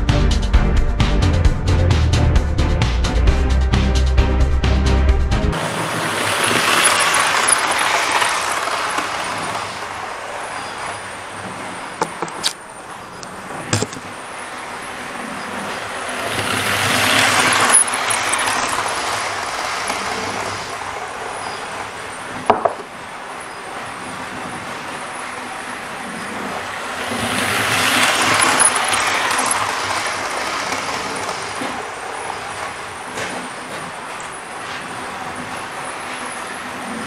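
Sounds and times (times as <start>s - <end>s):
model train whirring rattle: 5.6s - 37.0s.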